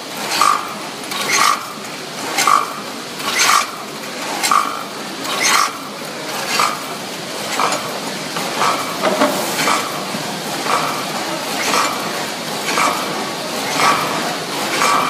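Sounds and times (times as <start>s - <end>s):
steady machine noise: 0.0s - 15.0s.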